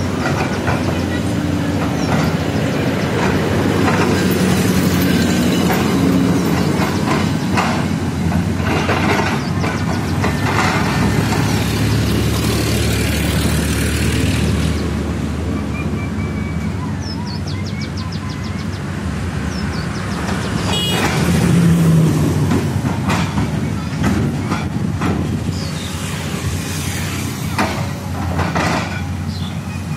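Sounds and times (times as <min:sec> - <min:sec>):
diesel engine under load: 0:00.0 - 0:29.9
road traffic passing: 0:00.0 - 0:29.9.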